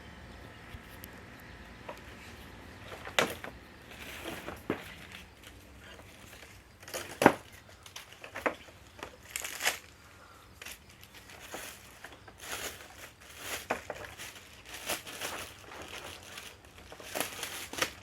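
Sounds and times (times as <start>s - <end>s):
packaging wrap crinkling: 2.8s - 10.0s, 10.6s - 18.0s.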